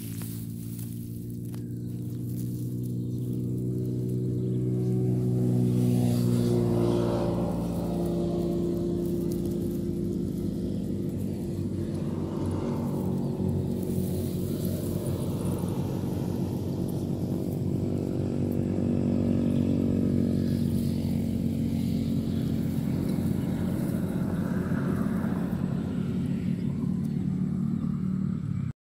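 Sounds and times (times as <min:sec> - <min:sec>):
engine humming: 0:00.0 - 0:28.7.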